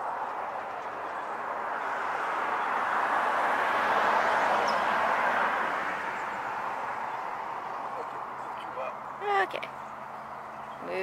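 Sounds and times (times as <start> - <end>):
vehicle tyre and road noise: 0.0 - 11.0.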